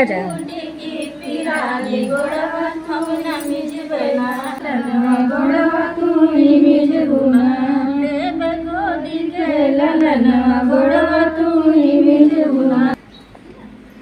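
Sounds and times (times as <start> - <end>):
women singing a devotional song: 0.0 - 13.0.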